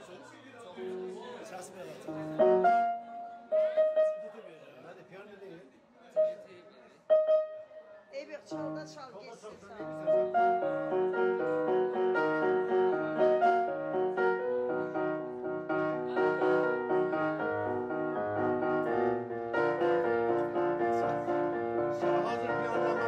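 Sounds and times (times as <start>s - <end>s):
keyboard playing piano melody: 0.8s - 4.6s, 6.2s - 23.0s.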